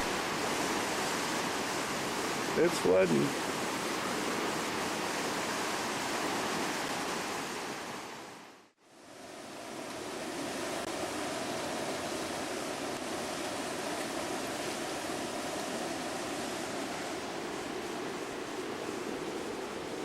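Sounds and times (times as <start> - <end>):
floodwater rushing: 0.0 - 8.4, 9.4 - 20.0.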